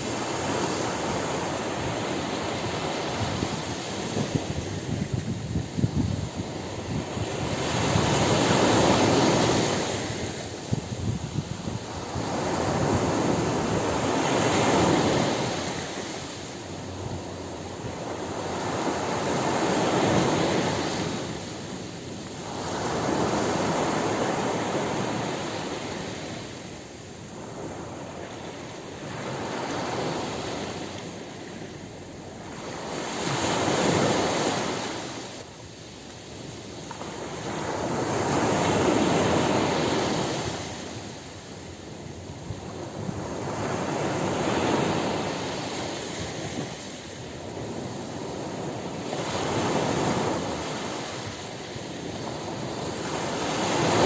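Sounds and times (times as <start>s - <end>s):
waves washing on beach: 0.0s - 54.0s.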